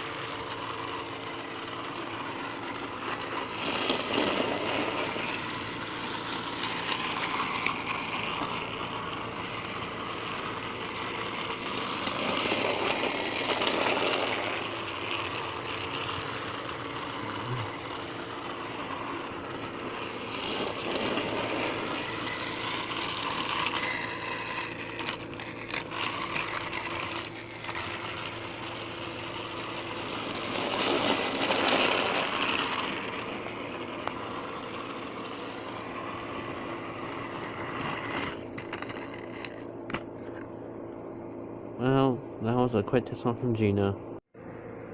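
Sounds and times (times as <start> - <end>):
toy train motor whirring: 0.0 - 40.4.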